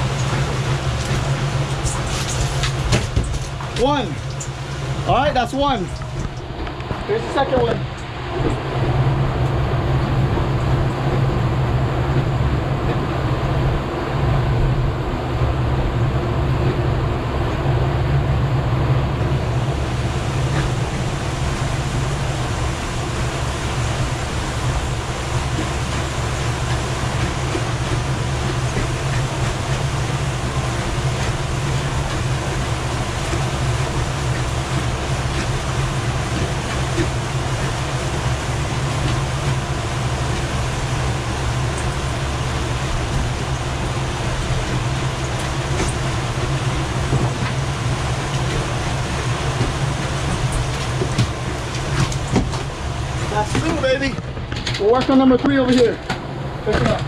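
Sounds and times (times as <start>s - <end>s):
boat engine droning: 0.0s - 57.0s
rush of wind and wake: 0.0s - 57.0s.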